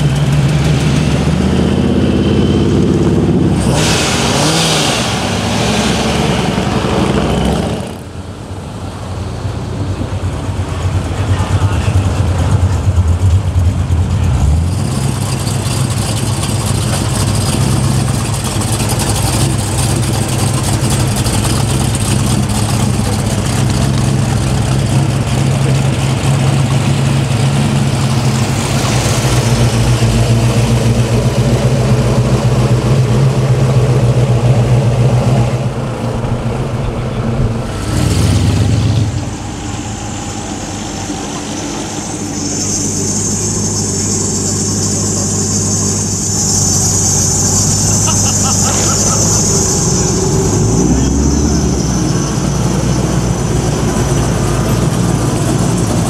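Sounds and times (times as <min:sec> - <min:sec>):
engine revving burst: 0:00.0 - 0:08.6, 0:11.0 - 0:56.0
car engines rumbling past: 0:00.0 - 0:56.0.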